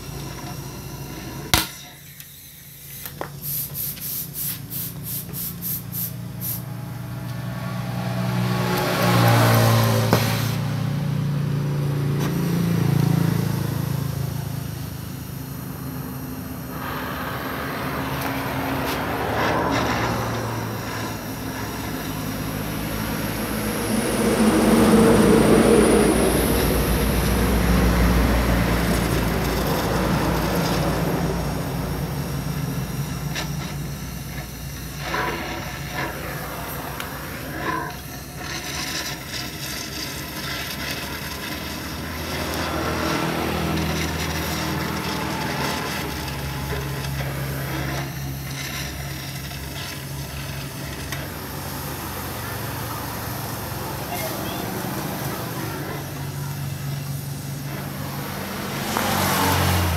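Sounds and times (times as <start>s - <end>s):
cutting torch hissing and roaring: 0.0s - 59.9s.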